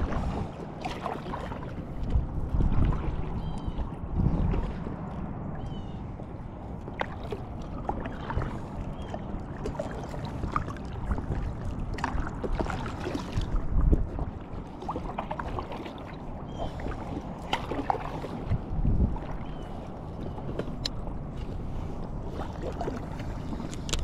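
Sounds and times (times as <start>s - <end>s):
water sloshing around a raft: 0.0s - 24.0s.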